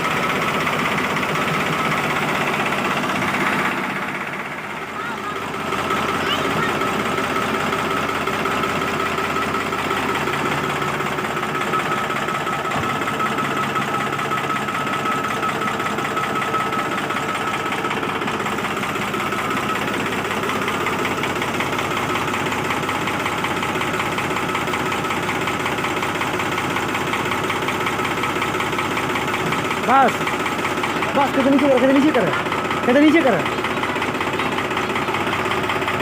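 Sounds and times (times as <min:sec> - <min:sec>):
tractor diesel engine knocking: 0:00.0 - 0:36.0.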